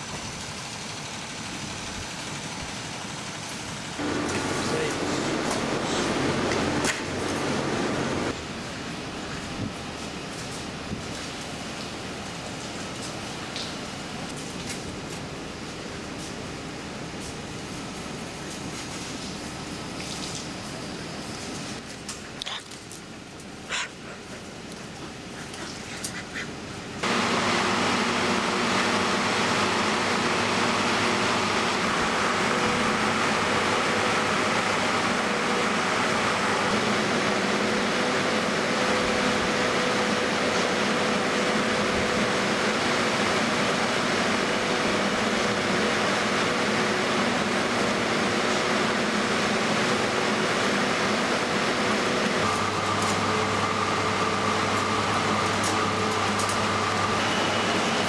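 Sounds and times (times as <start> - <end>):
machinery whirring and humming: 0.0 - 58.0.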